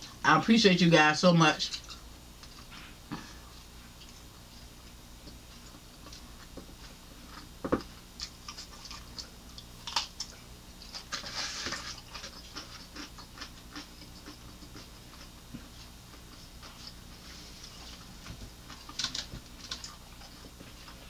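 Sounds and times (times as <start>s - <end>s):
crunchy chewing: 1.7s - 21.0s.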